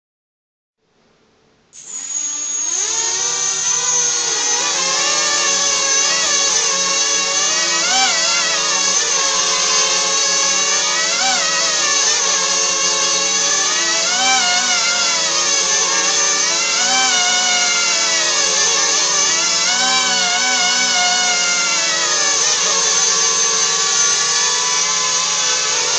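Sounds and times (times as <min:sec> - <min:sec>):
drone motors whining: 0:01.8 - 0:25.9.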